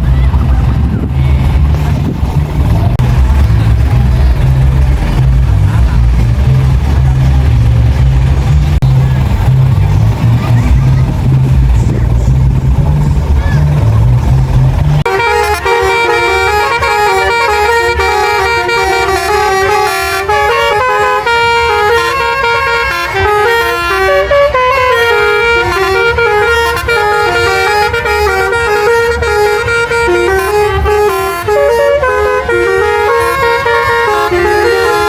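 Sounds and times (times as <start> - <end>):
musical truck horn melody: 0.6 - 35.0.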